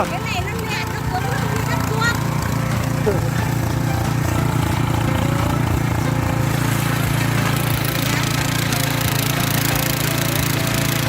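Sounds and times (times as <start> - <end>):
tiller engine running: 0.0 - 11.0.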